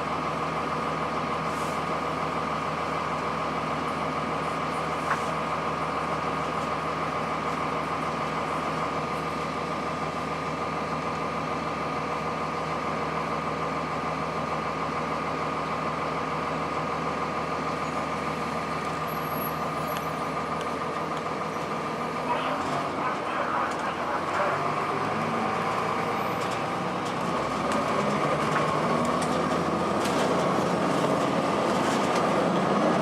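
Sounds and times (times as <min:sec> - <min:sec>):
diesel bus engine running: 0:00.0 - 0:33.0.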